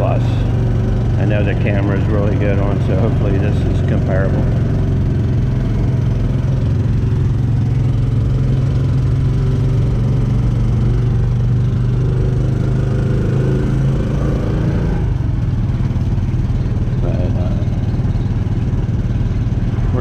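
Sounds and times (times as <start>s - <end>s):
higher engine tone rising: 0.0s - 20.0s
motor tricycle engine humming: 0.0s - 20.0s.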